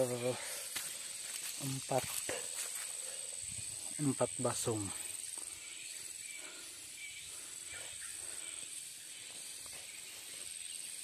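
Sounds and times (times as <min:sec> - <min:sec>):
insects shrilling: 0:00.0 - 0:11.0
soft outdoor hiss: 0:00.0 - 0:11.0.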